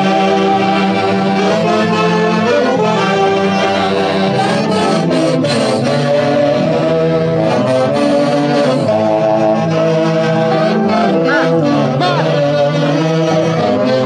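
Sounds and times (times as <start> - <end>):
saxophones and brass playing: 0.0 - 14.0.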